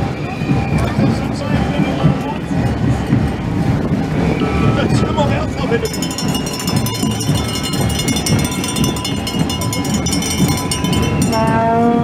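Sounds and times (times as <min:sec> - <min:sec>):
marching crowd feet and voices: 0:00.0 - 0:12.0.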